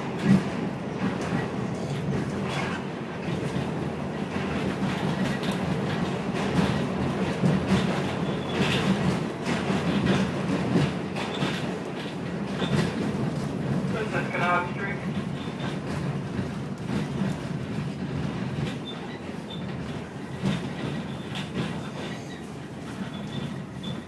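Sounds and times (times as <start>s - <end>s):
subway car rumble: 0.0s - 24.0s.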